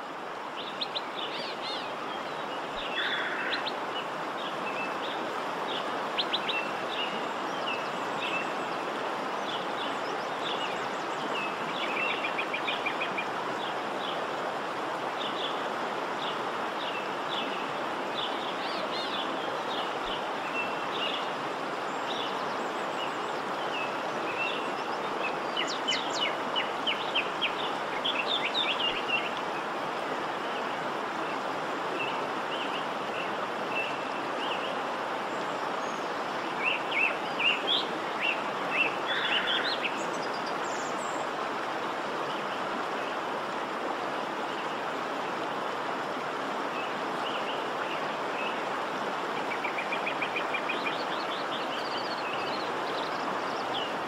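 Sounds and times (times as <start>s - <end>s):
waterfall and river rushing: 0.0s - 54.0s.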